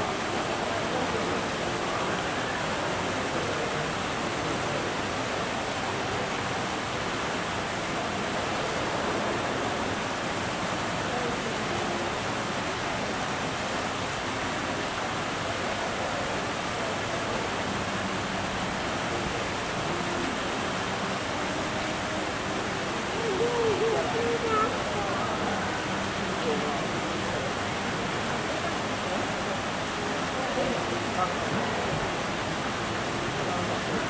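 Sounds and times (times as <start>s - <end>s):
faint voices murmuring: 0.0s - 34.0s
steady rushing noise: 0.0s - 34.0s.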